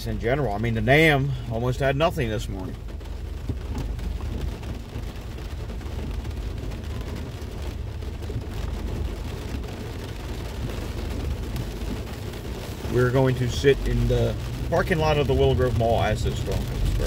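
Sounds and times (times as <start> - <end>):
continuous low rumble: 0.0 - 17.0
rain on car roof: 0.0 - 17.0.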